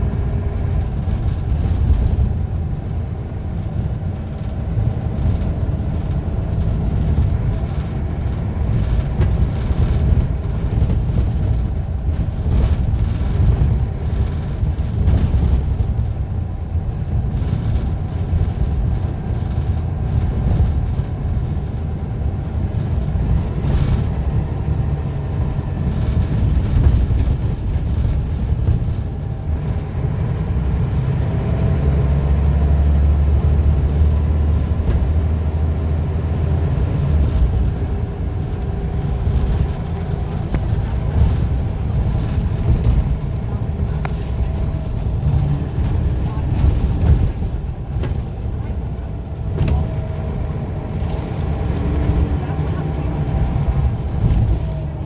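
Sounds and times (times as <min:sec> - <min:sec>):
bus diesel engine rumbling: 0:00.0 - 0:55.0.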